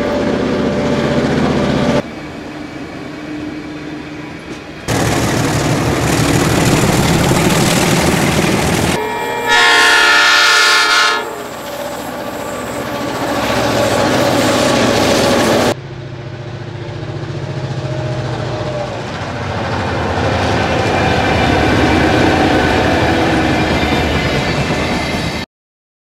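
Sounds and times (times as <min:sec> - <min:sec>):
diesel locomotive engine: 0:00.0 - 0:25.5.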